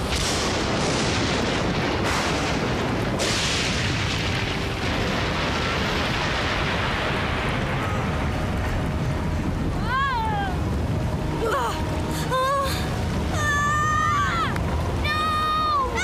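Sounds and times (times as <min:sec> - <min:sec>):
rain: 0:00.0 - 0:16.0
surging waves: 0:00.0 - 0:16.0
wind: 0:00.0 - 0:16.0.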